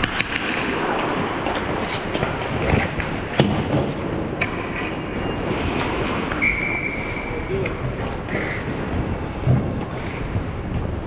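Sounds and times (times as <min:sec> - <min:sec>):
skates scraping on ice: 0:00.0 - 0:11.0.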